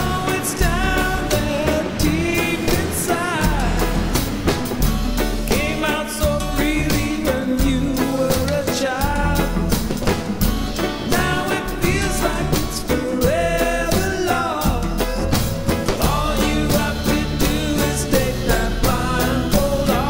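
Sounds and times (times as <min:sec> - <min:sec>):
person singing: 0:00.0 - 0:04.5, 0:05.2 - 0:10.1, 0:10.8 - 0:20.0
drum kit beat: 0:00.0 - 0:20.0.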